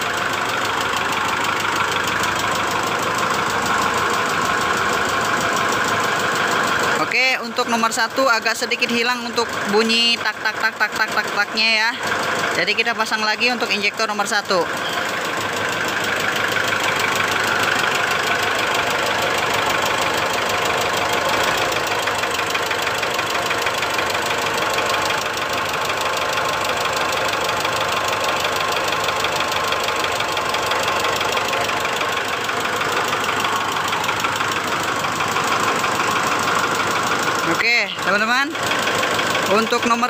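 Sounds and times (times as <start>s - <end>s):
diesel engine idling roughly: 0.0s - 40.0s
engine knock: 0.0s - 40.0s.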